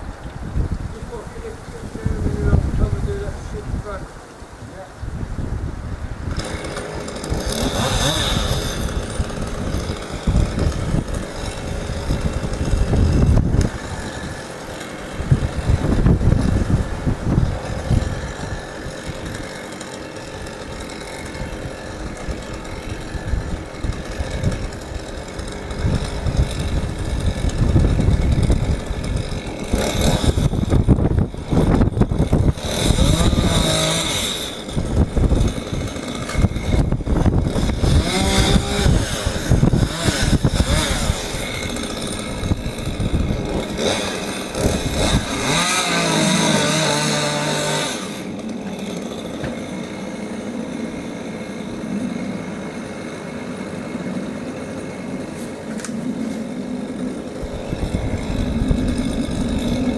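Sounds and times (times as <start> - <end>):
chainsaw idling and revving: 0.8 - 59.9.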